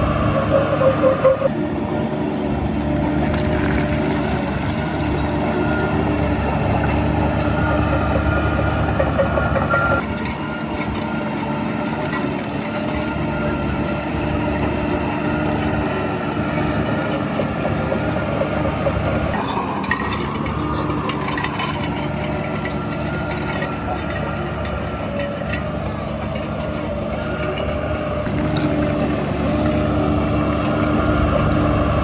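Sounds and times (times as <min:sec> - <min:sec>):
heavy diesel engine running: 0:00.0 - 0:32.0
machinery whine: 0:00.0 - 0:32.0.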